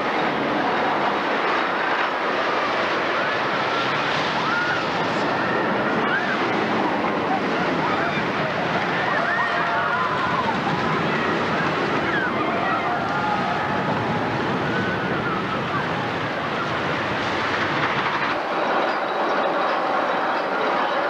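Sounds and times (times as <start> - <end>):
amusement park noise: 0.0 - 21.0
roller coaster rumbling on track: 0.0 - 21.0.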